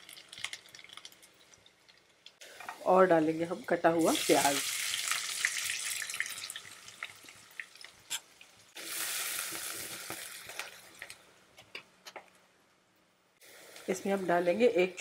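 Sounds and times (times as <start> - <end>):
onions sizzling in hot oil: 0.0 - 11.2, 13.4 - 15.0.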